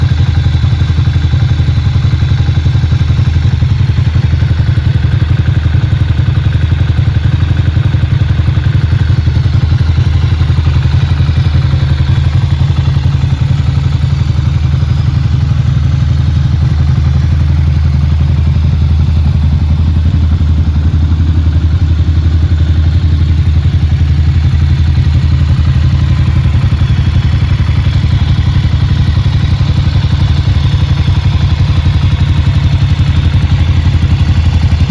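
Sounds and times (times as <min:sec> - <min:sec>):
motorcycle engine idling loudly: 0:00.0 - 0:34.9.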